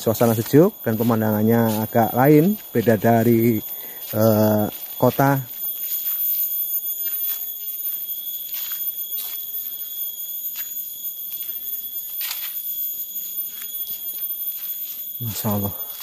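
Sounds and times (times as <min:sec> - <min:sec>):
footsteps on dirt path: 0:00.0 - 0:12.7, 0:13.4 - 0:16.0
cicadas singing: 0:00.0 - 0:16.0.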